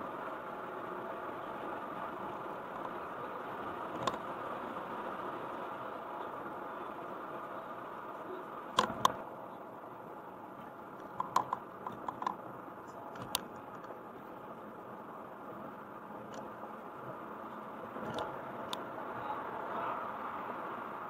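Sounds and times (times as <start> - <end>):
car road noise: 0.0 - 21.0.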